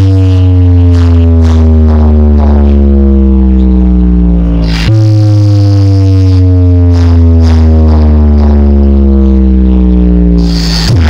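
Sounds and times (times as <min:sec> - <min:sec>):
deep steady bass: 0:00.0 - 0:11.0.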